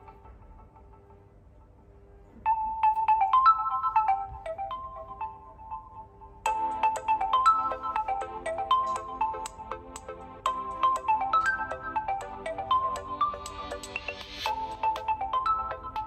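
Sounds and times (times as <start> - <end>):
phone ringtone melody: 2.5 - 16.0.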